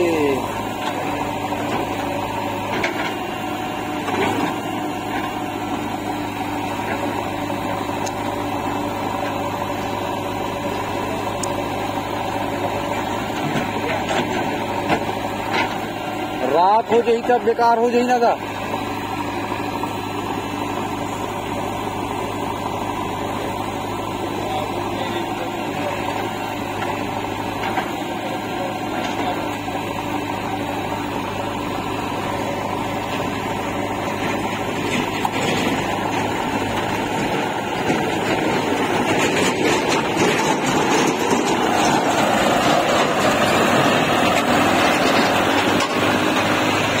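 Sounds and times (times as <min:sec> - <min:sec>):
backhoe loader engine running: 0:00.0 - 0:47.0
diesel tractor engine: 0:00.0 - 0:47.0.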